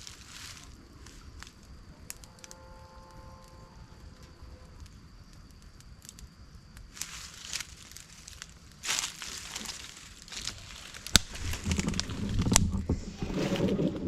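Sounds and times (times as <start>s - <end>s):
faint crackles and clicks: 0.0s - 14.0s
rustle: 0.0s - 14.0s.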